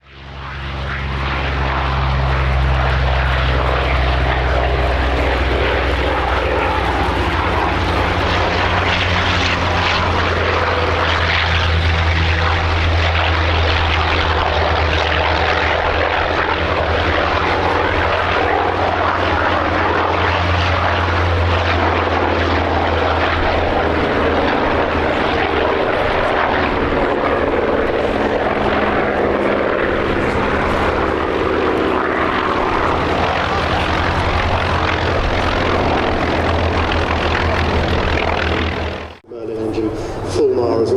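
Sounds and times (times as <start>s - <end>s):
propeller aircraft engines drone: 0.0s - 40.9s.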